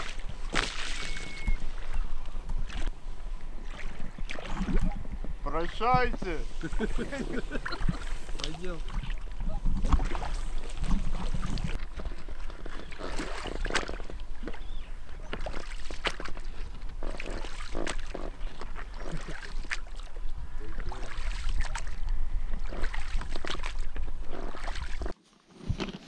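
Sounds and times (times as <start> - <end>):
knocks and splashes: 0.0 - 3.0, 3.6 - 25.1
boat low rumble: 0.0 - 25.1.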